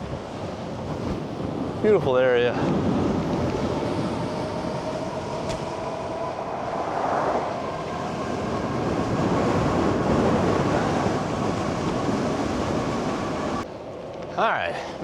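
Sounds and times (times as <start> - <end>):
tyres and wind rumble: 0.0 - 15.0.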